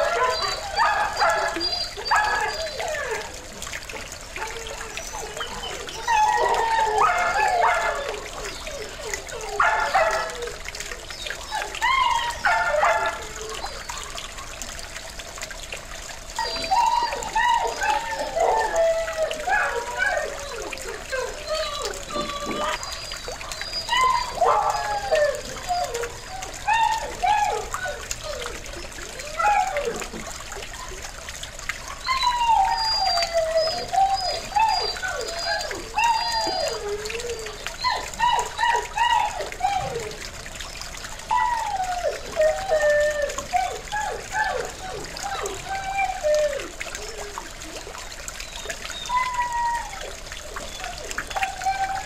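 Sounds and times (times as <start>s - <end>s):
dogs barking and yelping: 0.0s - 52.0s
pond fountain trickling and splashing: 0.0s - 52.0s.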